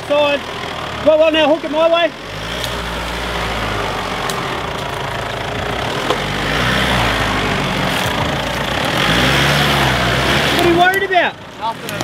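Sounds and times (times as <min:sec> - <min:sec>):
engine working at low revs: 0:00.0 - 0:12.0.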